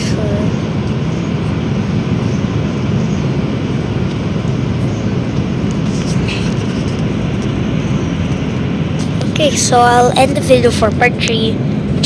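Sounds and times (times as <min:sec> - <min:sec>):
airplane engines roaring: 0:00.0 - 0:12.0
rushing air: 0:00.0 - 0:12.0.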